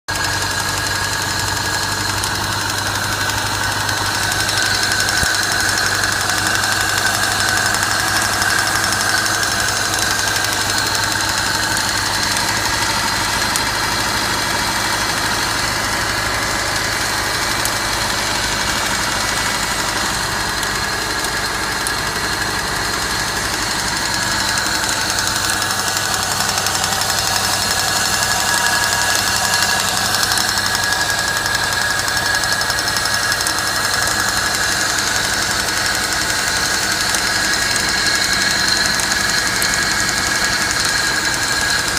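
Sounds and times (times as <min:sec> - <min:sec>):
car engine running: 0:00.0 - 0:41.9
engine knocking and rattling: 0:00.0 - 0:41.9.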